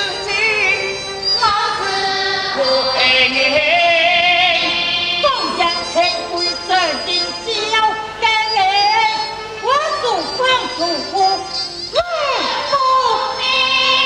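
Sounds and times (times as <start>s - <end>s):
accompanying opera ensemble: 0.0s - 14.0s
wavering high melodic line: 0.0s - 14.0s.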